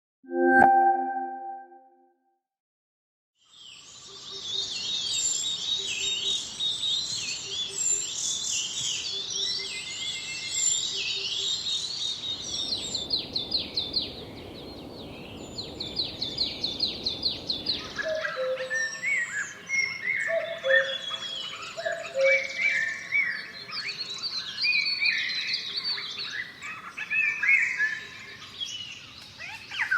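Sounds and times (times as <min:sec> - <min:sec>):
birds singing and chirping: 0:04.4 - 0:29.9.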